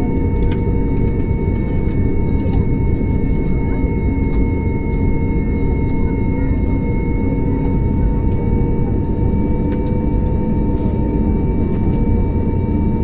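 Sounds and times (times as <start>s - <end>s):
constant tonal whine: 0.0s - 13.0s
low cabin rumble: 0.0s - 13.0s.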